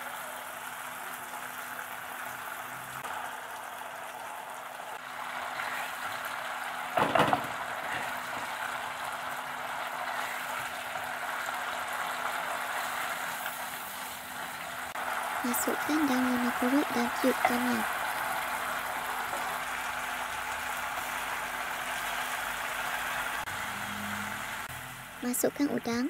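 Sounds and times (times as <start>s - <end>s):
sauce sizzling and bubbling in a wok: 0.0s - 26.0s.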